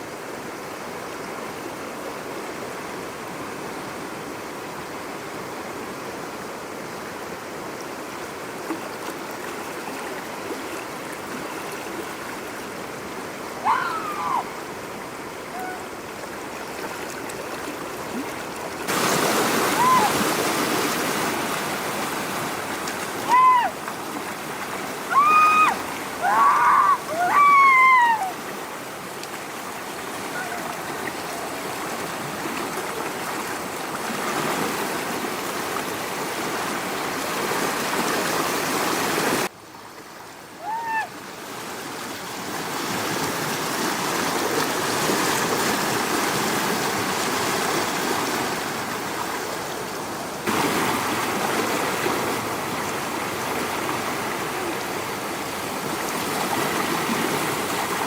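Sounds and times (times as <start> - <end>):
rushing floodwater: 0.0 - 58.0.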